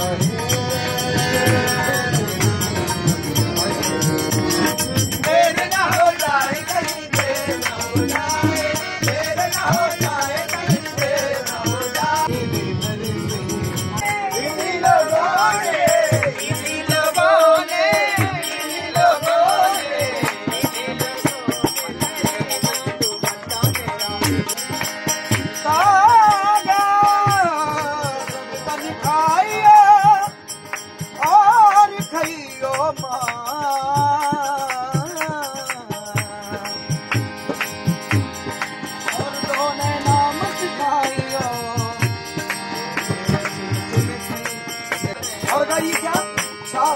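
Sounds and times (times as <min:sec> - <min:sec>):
hand percussion: 0:00.0 - 0:46.9
harmonium: 0:00.0 - 0:46.9
man singing: 0:00.0 - 0:46.9.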